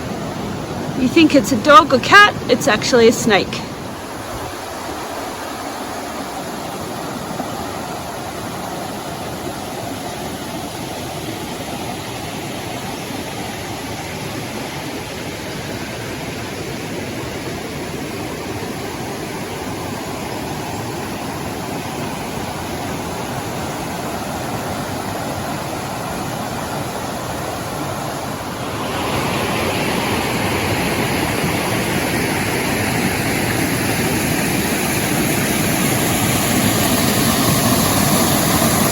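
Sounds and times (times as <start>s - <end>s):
waterfall roaring: 0.0s - 15.0s, 21.3s - 38.9s.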